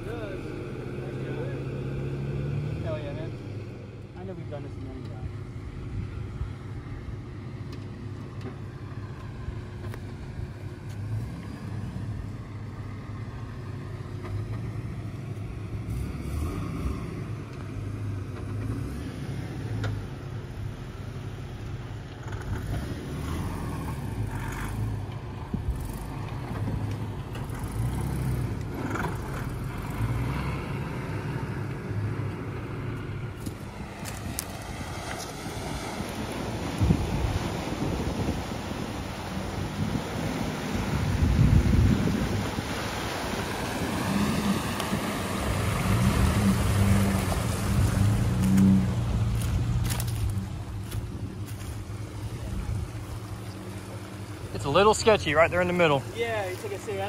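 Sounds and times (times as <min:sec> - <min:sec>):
car engine running at low speed: 0:00.0 - 0:57.0.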